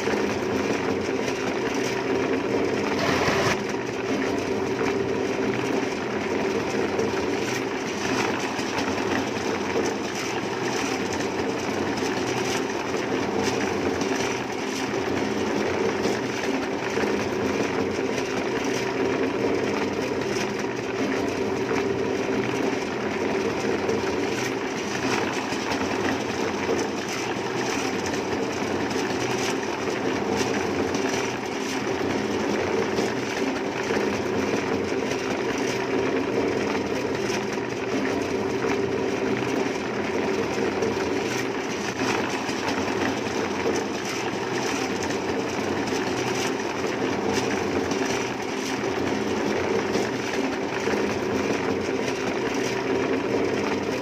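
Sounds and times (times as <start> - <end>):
machine motor humming and rattling: 0.0 - 54.0.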